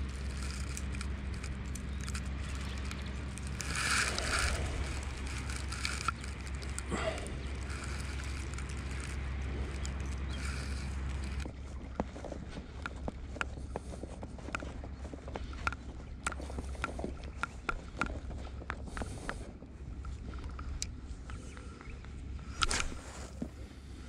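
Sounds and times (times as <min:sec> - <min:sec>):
boat engine humming: 0:00.0 - 0:24.0
handling clicks and rustles: 0:00.0 - 0:24.0.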